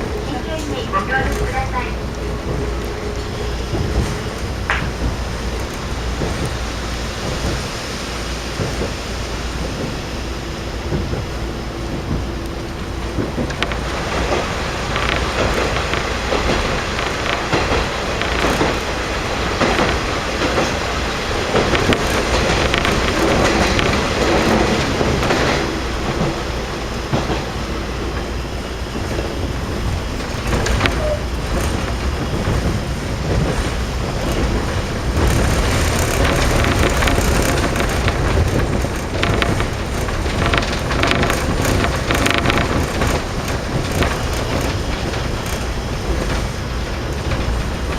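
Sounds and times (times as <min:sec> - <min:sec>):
wheels clicking over rail joints: 0:00.0 - 0:07.8, 0:08.5 - 0:47.9
diesel railcar drone: 0:00.0 - 0:47.9.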